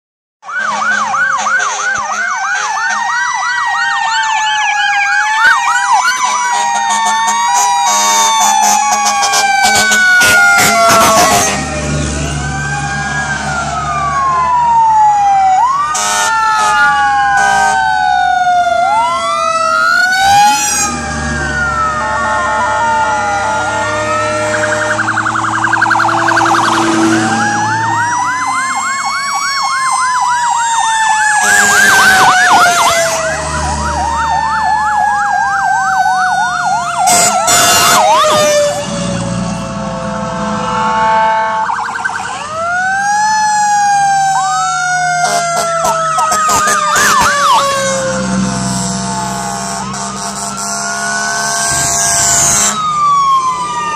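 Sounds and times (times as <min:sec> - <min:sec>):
fire truck sirens wailing: 0:00.4 - 0:53.9
short sharp siren bursts: 0:00.4 - 0:53.9
siren fast yelp: 0:00.4 - 0:53.9.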